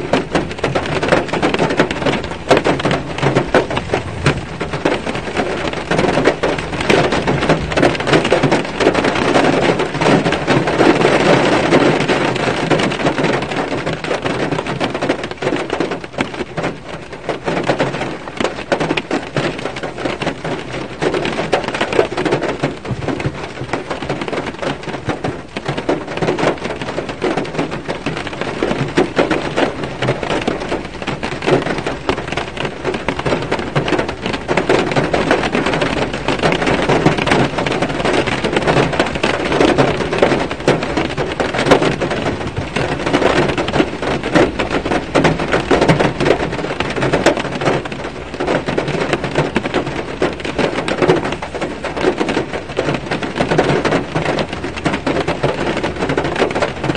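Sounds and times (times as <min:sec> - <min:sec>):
rain on car roof: 0:00.0 - 0:56.9.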